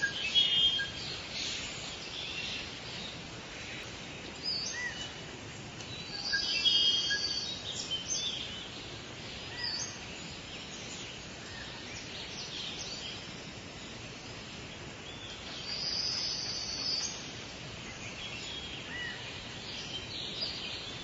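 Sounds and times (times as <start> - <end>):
birds chirping and singing: 0.0 - 13.8, 14.6 - 21.0
steady background hiss: 0.0 - 21.0.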